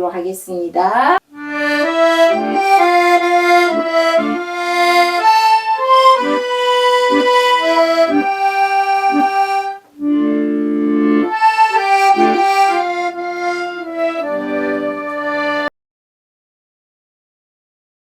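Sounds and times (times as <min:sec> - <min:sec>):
accordion playing slow melody: 0:01.3 - 0:15.7.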